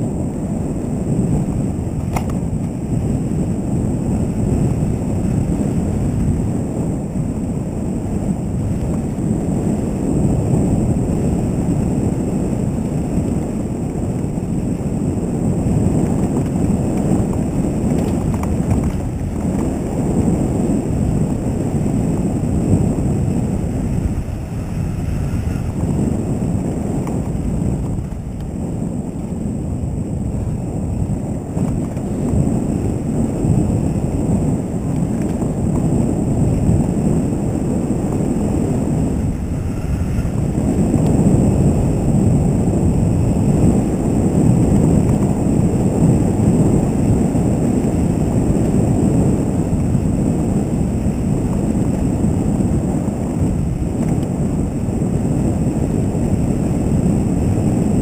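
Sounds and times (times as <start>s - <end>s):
bike tyres rolling on dirt: 0.0s - 58.0s
wind buffeting microphone: 0.0s - 58.0s.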